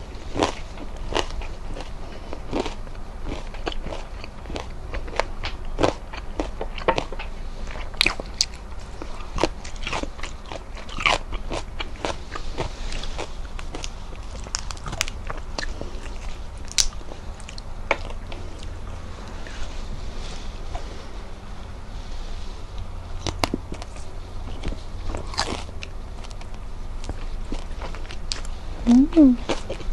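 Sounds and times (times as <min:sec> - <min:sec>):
crunching fried food: 0:00.0 - 0:28.7, 0:29.4 - 0:29.9
faint low hum: 0:00.0 - 0:29.9.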